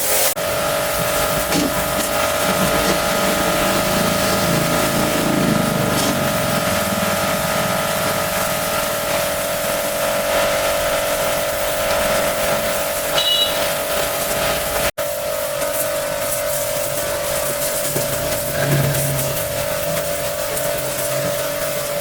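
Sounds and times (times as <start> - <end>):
pressure washer running: 0.0 - 22.0.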